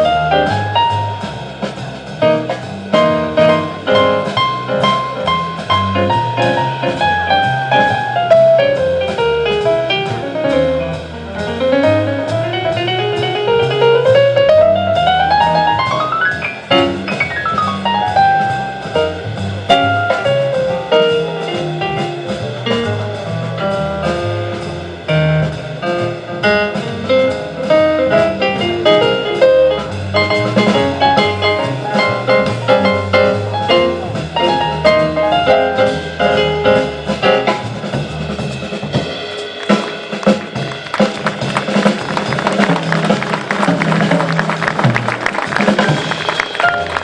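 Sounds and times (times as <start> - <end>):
double bass: 0.0 - 47.0
drums and cymbals: 0.0 - 47.0.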